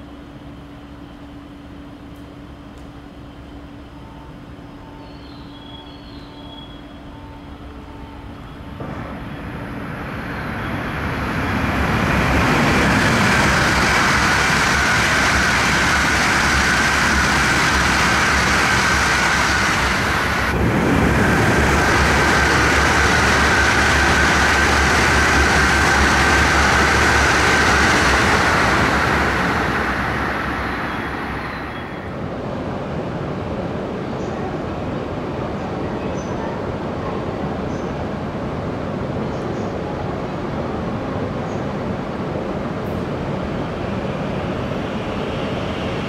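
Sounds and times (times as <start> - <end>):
high speed train passing: 0.0 - 46.0.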